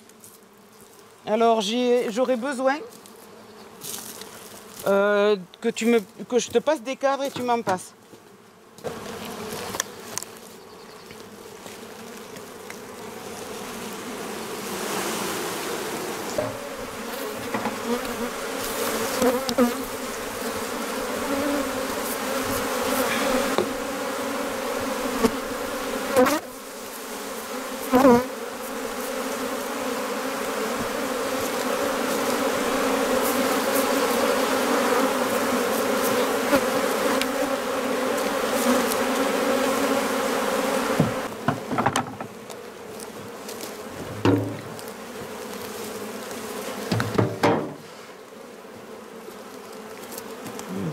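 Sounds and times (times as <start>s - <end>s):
single bee buzzing past: 0.0s - 6.1s, 7.2s - 50.9s
honeybees buzzing: 0.0s - 50.9s.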